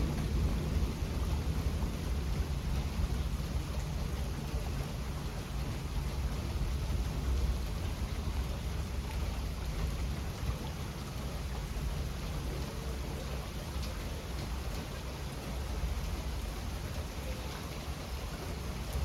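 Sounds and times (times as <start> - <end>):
low rumble of thunder: 0.0 - 19.0
steady rain falling: 0.0 - 19.0.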